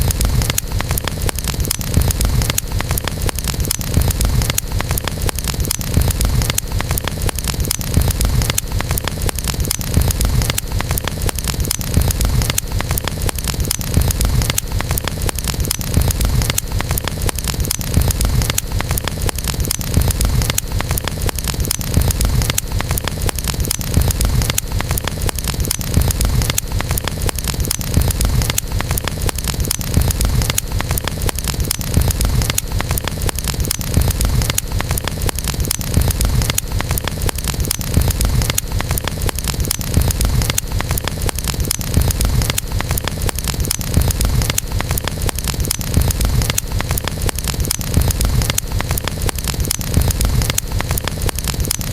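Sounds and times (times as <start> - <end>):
campfire crackling: 0.0 - 51.9
low rumble of fire: 0.0 - 51.9.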